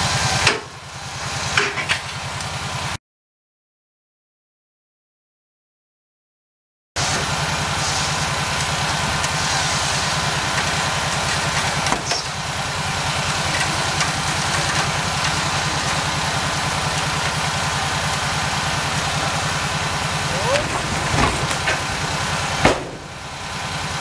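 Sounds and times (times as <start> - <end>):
atv engine idling: 0.0 - 3.0, 7.0 - 24.0.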